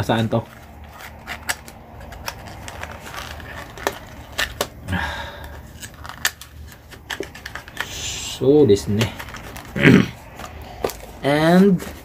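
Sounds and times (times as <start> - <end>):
cardboard box clicks and crinkles: 0.2 - 12.0
cardboard rustling tear: 0.2 - 12.0.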